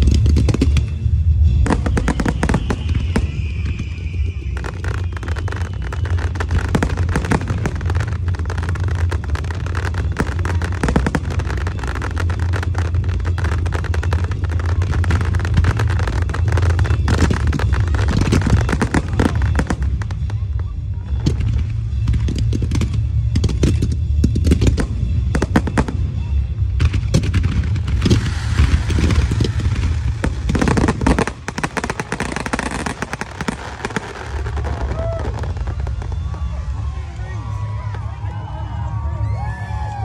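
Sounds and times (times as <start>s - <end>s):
fireworks bursting: 0.0s - 39.1s
deep rumble: 0.0s - 40.0s
fireworks crackling: 0.0s - 40.0s
falling firework whistle: 0.1s - 20.4s, 27.1s - 40.0s.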